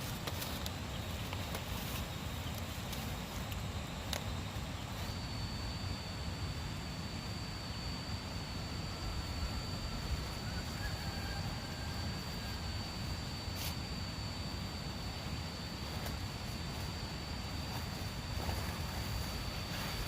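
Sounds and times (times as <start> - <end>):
high-pitched whine: 0.0 - 20.0.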